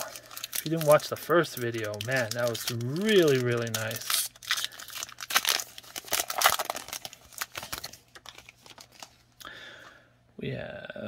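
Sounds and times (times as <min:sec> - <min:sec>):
wrapper tearing and crinkling: 0:00.0 - 0:09.3.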